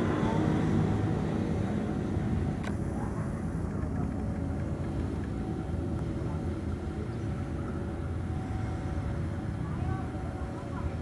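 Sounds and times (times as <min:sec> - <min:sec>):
locomotive engines droning: 0:00.0 - 0:11.0.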